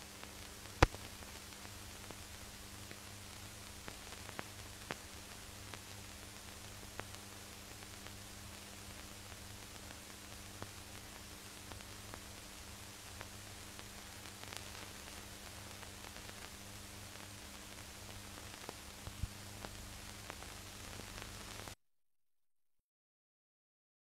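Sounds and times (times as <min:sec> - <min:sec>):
film soundtrack hiss and crackles: 0:00.0 - 0:21.8.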